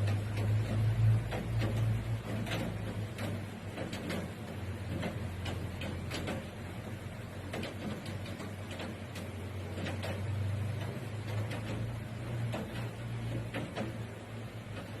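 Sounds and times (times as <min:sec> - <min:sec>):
raindrops tapping on hard surface: 0:00.0 - 0:15.0
rush of rain: 0:00.0 - 0:15.0.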